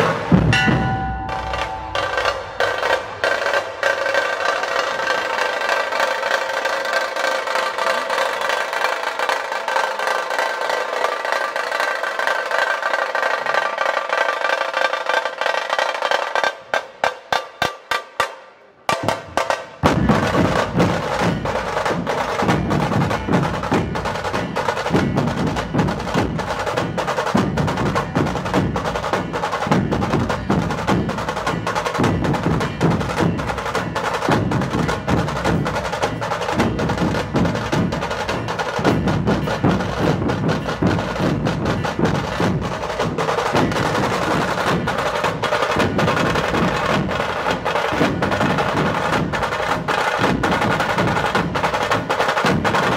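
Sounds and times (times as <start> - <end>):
fast crackling snare drum roll: 0.0 - 16.9, 18.9 - 52.9
large drums pounding rhythm: 0.0 - 18.3, 18.9 - 52.9.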